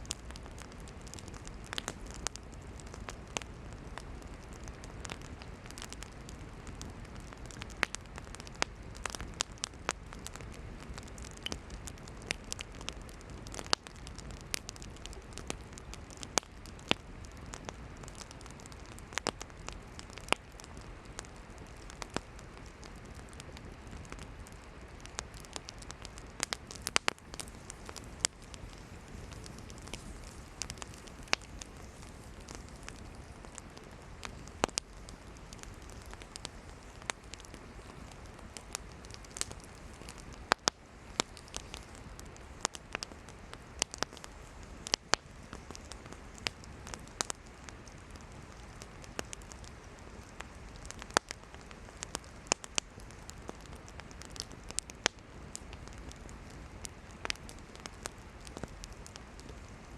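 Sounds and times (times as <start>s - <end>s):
campfire flames hissing: 0.0s - 59.9s
firewood crackling and popping: 0.0s - 59.9s.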